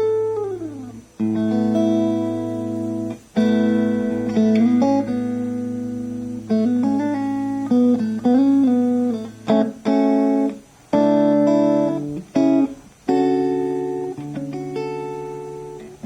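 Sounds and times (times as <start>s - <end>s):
distorted electric guitar: 0.0s - 16.0s.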